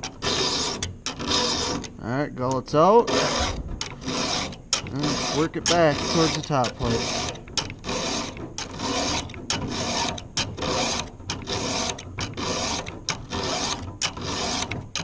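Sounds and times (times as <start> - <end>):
file clicking on tooth: 0.0 - 15.0
file rasping on saw chain: 0.0 - 15.0.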